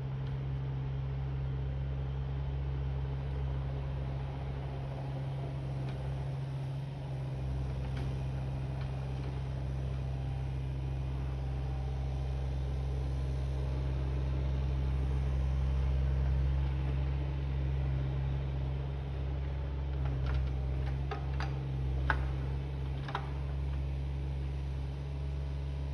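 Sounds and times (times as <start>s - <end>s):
diesel engine under hydraulic load: 0.0s - 25.9s.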